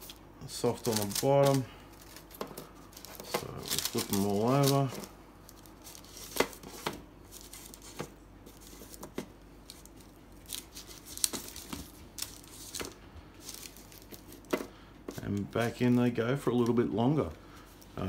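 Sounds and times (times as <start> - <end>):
baking paper rustling: 0.0 - 18.0.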